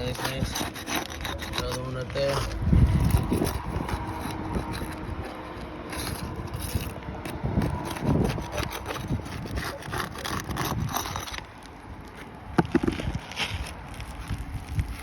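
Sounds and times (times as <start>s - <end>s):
shingles scraping and crackling: 0.0s - 15.0s.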